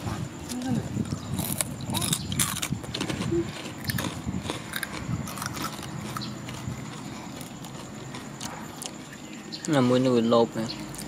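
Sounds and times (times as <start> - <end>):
crunchy snack being chewed: 0.4 - 9.7.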